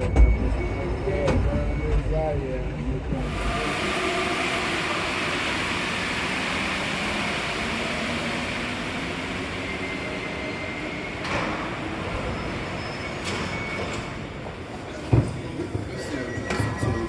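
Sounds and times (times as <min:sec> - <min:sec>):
metro train interior rumble: 0:00.0 - 0:17.0.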